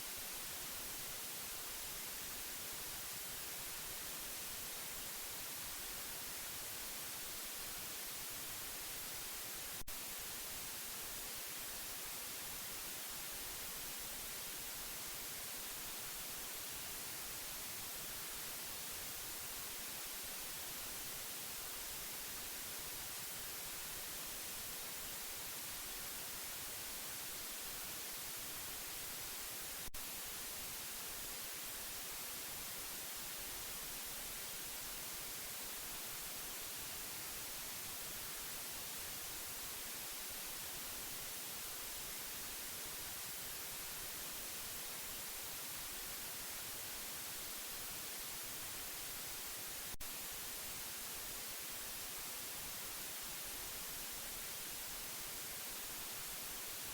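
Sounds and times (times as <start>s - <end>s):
steady white noise hiss: 0.0s - 56.9s.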